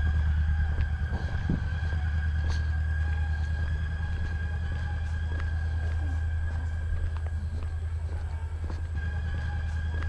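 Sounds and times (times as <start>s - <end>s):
footsteps on path: 0.0s - 10.0s
low rumble: 0.0s - 10.0s.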